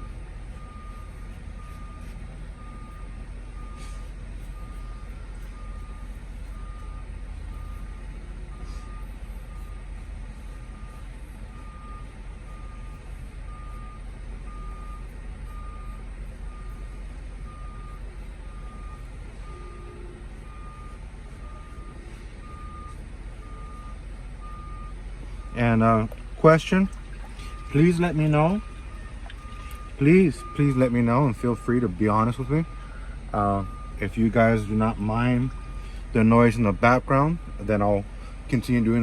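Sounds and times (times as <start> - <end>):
diesel engines idling: 0.0 - 39.0
truck reversing alarm beeping: 0.0 - 39.0.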